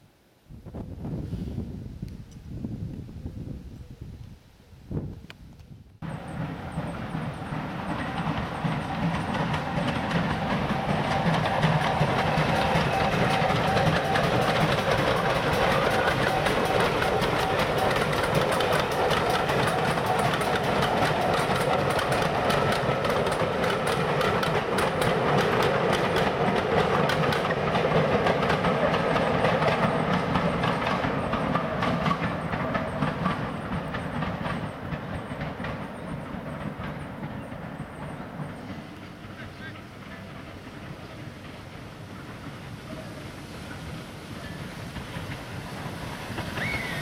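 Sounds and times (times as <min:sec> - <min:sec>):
steam train passing: 0:06.0 - 0:47.0
wheels clicking over rail joints: 0:06.0 - 0:47.0.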